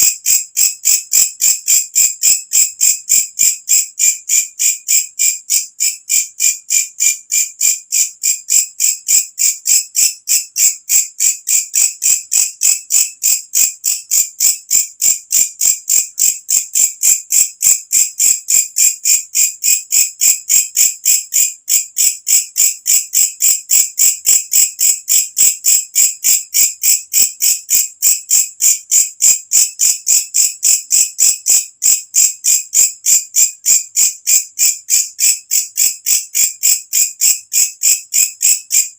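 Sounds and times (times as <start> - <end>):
bush cricket chirping: 0.0 - 38.9.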